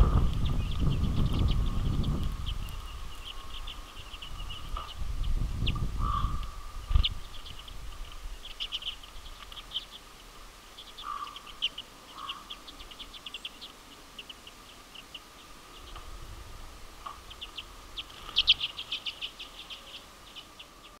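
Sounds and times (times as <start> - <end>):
small birds chattering: 0.0 - 21.0.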